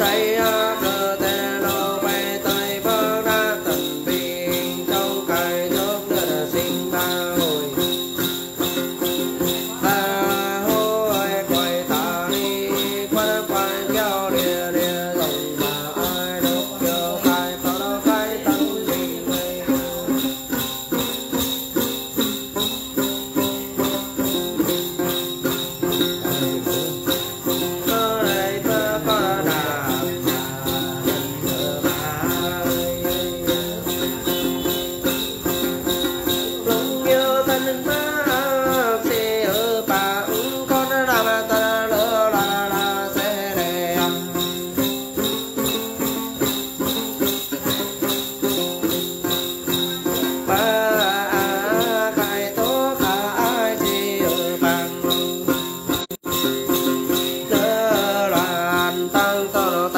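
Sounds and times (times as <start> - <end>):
held lute string tones: 0.0 - 59.9
person singing: 0.0 - 59.9
small bells jingling: 0.0 - 59.9.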